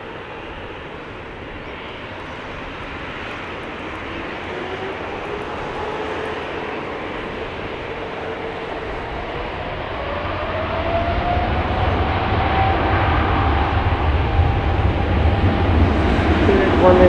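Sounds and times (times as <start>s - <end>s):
jet engines whining: 0.0s - 17.0s
deep engine rumble: 1.3s - 17.0s.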